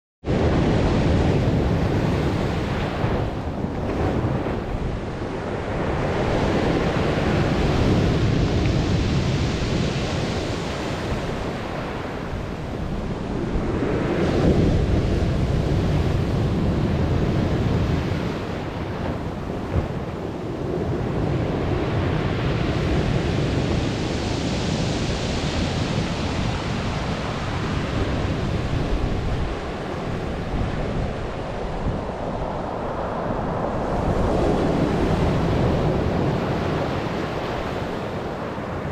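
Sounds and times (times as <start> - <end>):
wind buffeting microphone: 0.2 - 38.9
waves breaking: 0.3 - 38.9.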